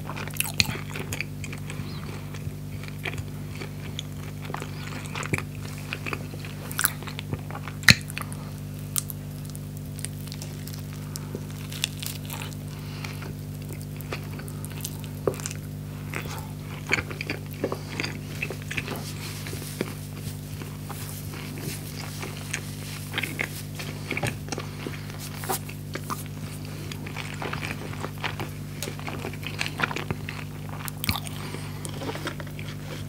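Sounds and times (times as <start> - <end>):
crunchy chewing and biting: 0.0 - 33.0
steady low hum: 0.0 - 33.0.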